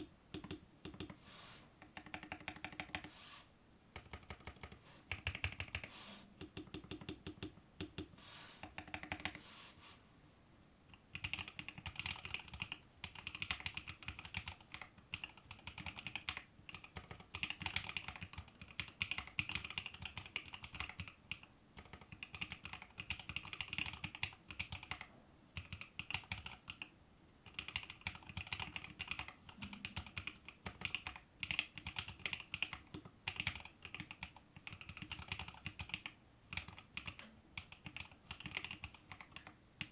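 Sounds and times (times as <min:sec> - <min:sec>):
mechanical keyboard typing: 0:00.0 - 0:01.2, 0:01.8 - 0:03.1, 0:04.0 - 0:09.4, 0:11.1 - 0:39.9.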